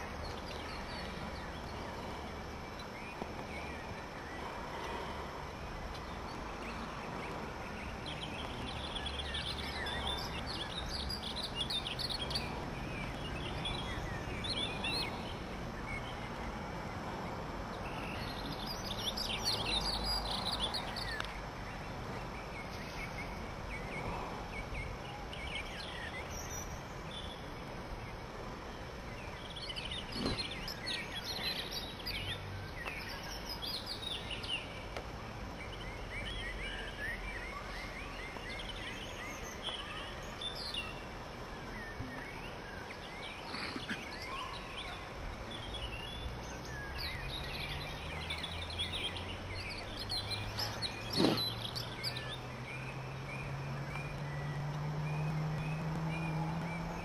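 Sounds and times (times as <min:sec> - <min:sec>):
outdoor background noise: 0:00.0 - 0:57.0
songbirds chirping: 0:00.0 - 0:57.0.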